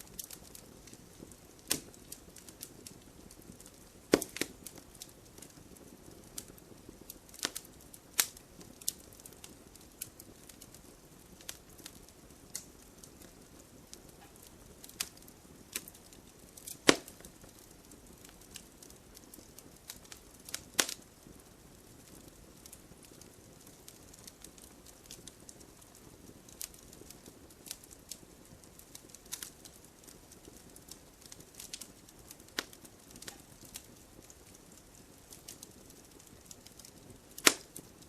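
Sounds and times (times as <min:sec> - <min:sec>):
burning logs popping: 0:00.0 - 0:38.0
wood fire crackling: 0:00.0 - 0:38.0.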